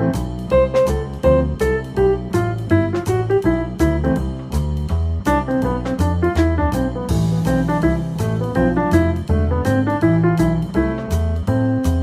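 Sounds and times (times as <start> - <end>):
upbeat instrumental music: 0.0 - 12.0.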